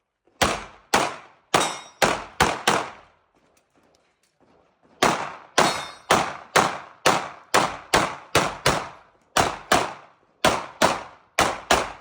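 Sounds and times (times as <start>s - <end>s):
pistol shots: 0.4s - 3.1s, 5.0s - 12.0s.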